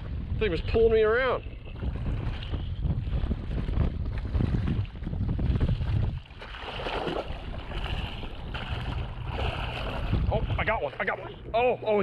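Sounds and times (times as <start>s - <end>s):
water splashing against hull: 0.0s - 12.0s
wind buffeting microphone: 0.0s - 12.0s.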